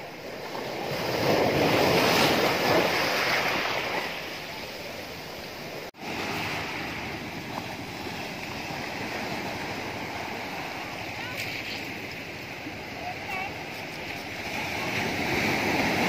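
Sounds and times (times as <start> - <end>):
sea waves breaking on boulders: 0.0 - 16.0
surf washing over rocks: 0.0 - 16.0.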